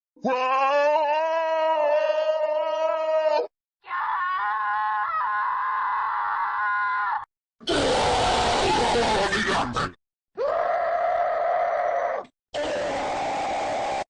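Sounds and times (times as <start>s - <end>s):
person screaming: 0.2s - 9.7s, 10.4s - 14.0s.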